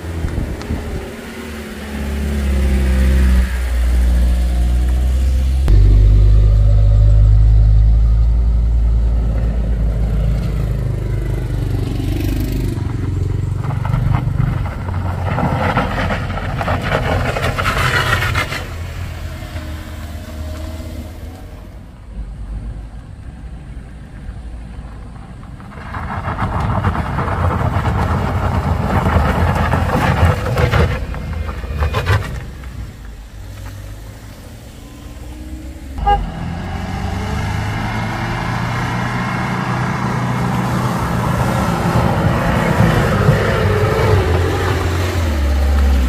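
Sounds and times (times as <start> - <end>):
heavy truck engines climbing: 0.0 - 46.0.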